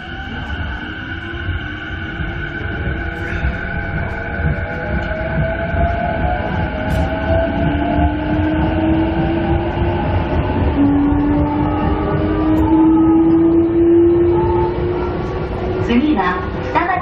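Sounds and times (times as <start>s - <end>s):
electric train motor whine: 0.0s - 16.8s
low rail rumble: 0.0s - 17.0s.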